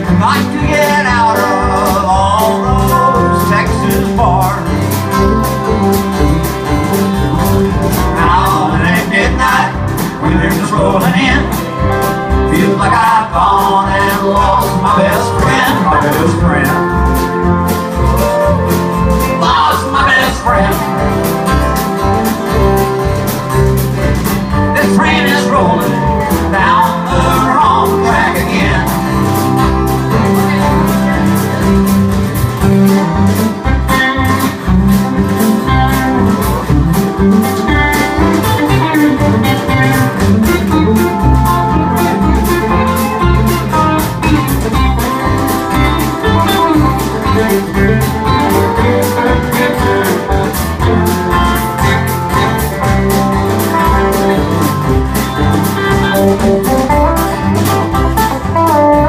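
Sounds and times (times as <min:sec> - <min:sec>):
bass: 0:00.0 - 0:59.0
lead guitar: 0:00.0 - 0:59.0
steady drum beat: 0:00.0 - 0:59.0.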